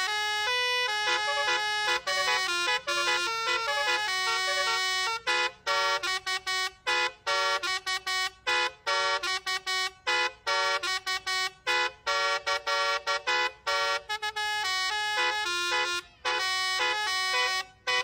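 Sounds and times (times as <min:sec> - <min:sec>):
musical bus horn playing a tune: 0:00.0 - 0:18.0.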